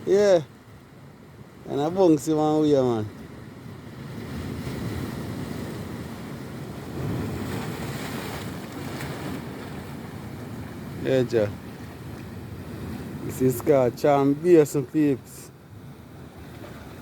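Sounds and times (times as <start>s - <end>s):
waves surging against rocks: 0.0s - 17.0s.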